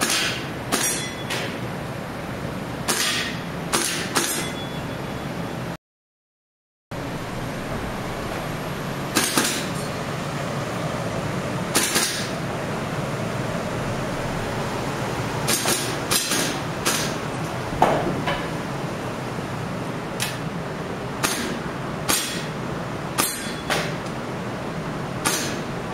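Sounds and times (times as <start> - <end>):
steady background noise: 0.0 - 5.8, 7.0 - 25.9.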